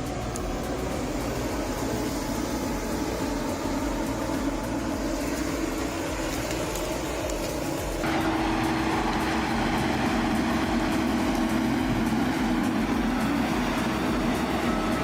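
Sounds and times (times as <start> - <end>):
diesel engine running: 0.0 - 15.0
steady droning tone: 0.0 - 15.0.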